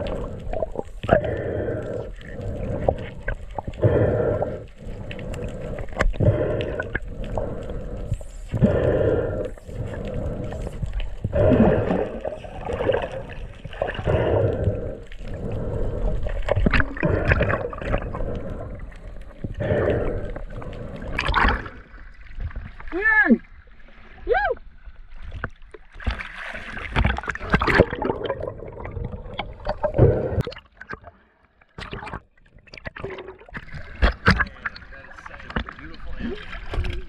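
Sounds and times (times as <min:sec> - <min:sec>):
muffled underwater water rush: 0:00.0 - 0:37.0.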